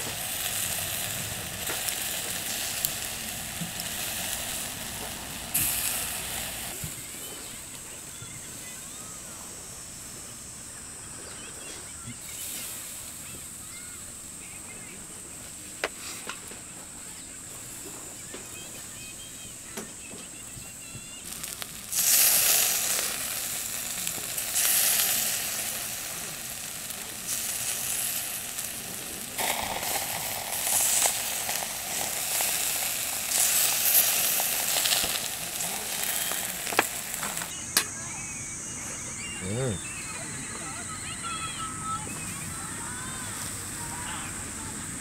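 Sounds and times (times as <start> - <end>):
skewers sizzling on grill: 0.0 - 45.0.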